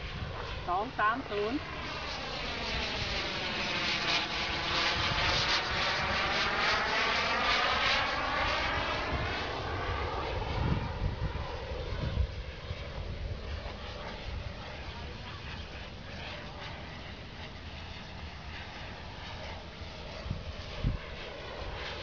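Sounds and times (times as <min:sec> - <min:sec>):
jet model airplane flying: 0:00.0 - 0:22.0.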